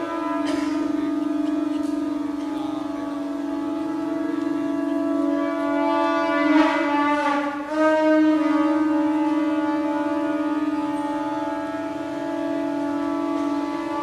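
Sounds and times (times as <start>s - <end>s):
conch shell blown: 0.0s - 14.0s.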